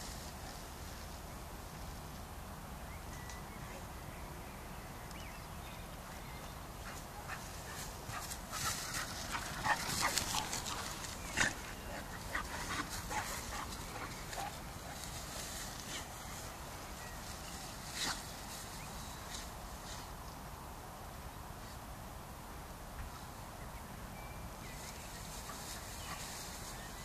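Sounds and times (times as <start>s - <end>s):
grass rustling: 0.0s - 3.9s, 5.2s - 20.6s, 24.5s - 27.0s.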